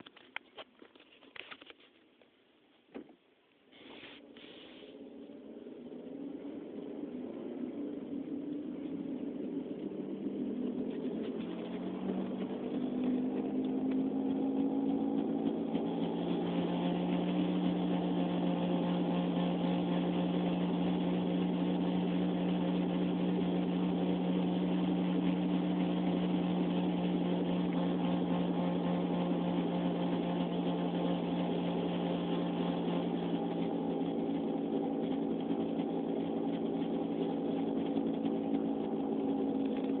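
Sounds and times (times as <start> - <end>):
car humming drone: 3.8 - 40.0.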